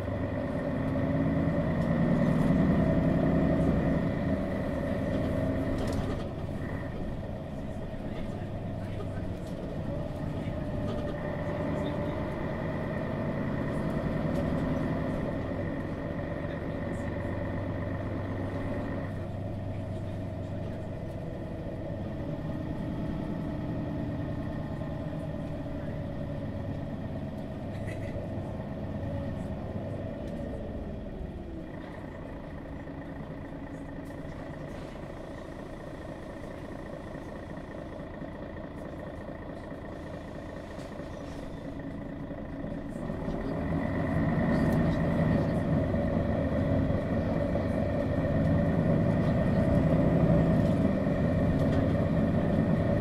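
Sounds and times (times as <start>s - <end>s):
bus diesel engine running: 0.0s - 53.0s
steady engine whine: 0.0s - 53.0s.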